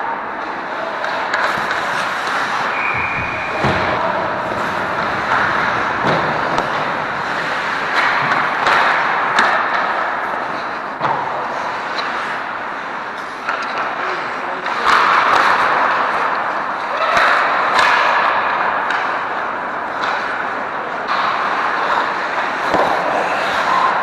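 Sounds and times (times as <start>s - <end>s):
skating and play noise: 0.0s - 24.0s
sticks and pucks knocking boards: 0.9s - 24.0s.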